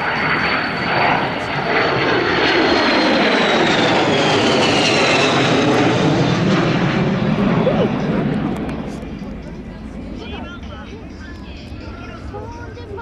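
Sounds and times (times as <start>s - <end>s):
jet aircraft flying overhead: 0.0s - 13.0s.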